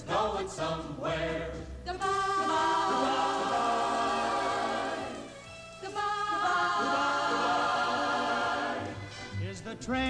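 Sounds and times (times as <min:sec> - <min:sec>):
choir singing held chords: 0:00.0 - 0:09.4.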